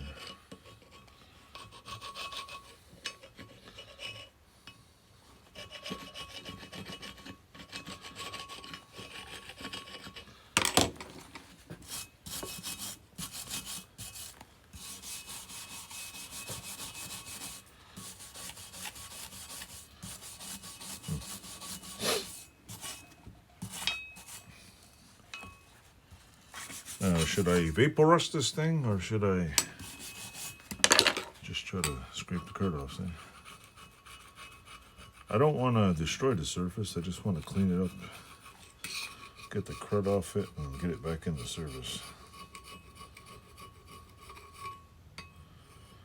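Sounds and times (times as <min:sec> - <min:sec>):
wire brush scrubbing metal: 0:05.4 - 0:10.4, 0:11.1 - 0:24.8, 0:26.5 - 0:44.8.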